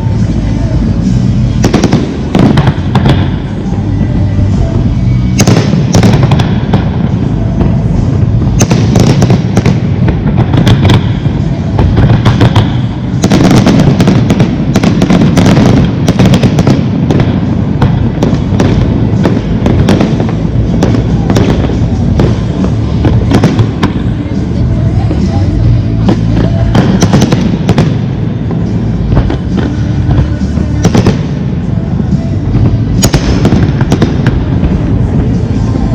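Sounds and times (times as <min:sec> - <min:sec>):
continuous rumble: 0:00.0 - 0:35.9
fireworks bangs and crackles: 0:00.0 - 0:35.9.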